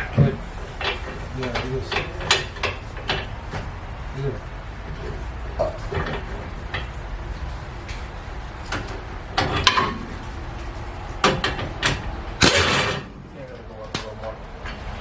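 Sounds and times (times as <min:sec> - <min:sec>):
metal clanking and scraping: 0:00.0 - 0:03.8, 0:04.9 - 0:14.9.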